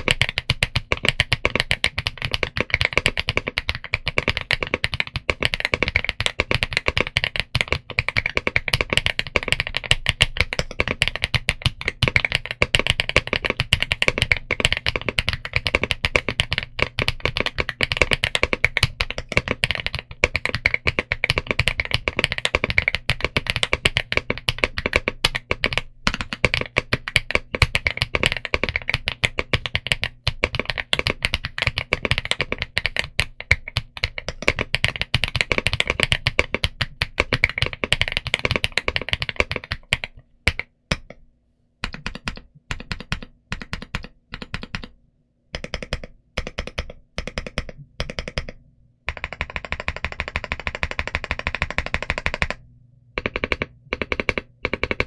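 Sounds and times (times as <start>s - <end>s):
mechanical keyboard typing: 0.0s - 41.2s, 41.8s - 52.6s, 53.2s - 55.0s.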